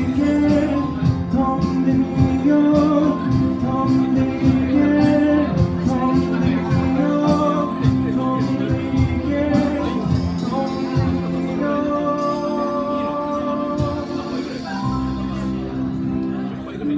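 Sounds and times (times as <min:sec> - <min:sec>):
drums keeping a steady beat: 0:00.0 - 0:12.6, 0:13.3 - 0:15.3
bass line: 0:00.0 - 0:16.9
electronic organ chords: 0:00.0 - 0:16.9.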